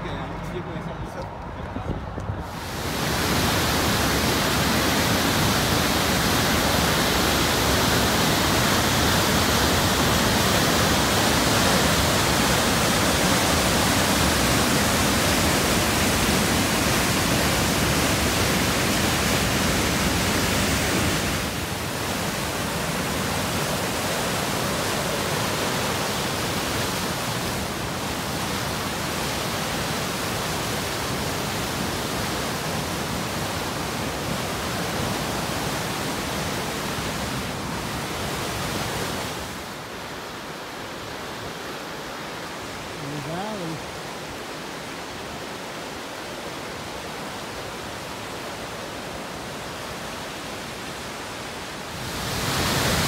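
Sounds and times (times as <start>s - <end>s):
rushing whitewater roar: 2.4s - 53.0s.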